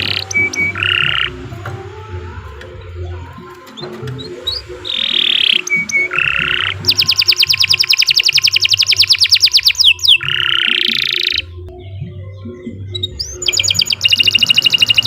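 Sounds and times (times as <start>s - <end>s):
canary singing: 0.0s - 15.0s
low pulsing sound: 0.0s - 15.0s.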